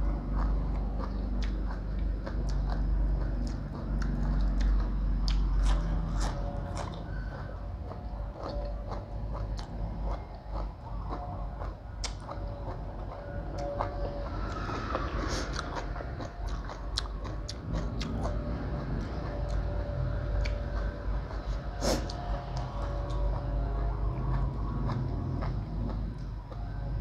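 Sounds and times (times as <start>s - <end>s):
crunching food: 0.0s - 27.0s
person chewing food: 0.0s - 27.0s.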